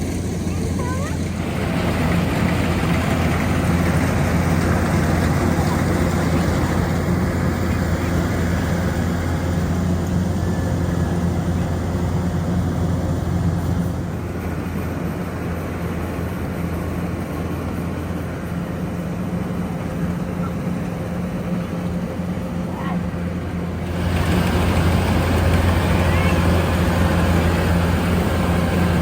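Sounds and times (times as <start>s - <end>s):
harvester engine hum: 0.0s - 29.0s.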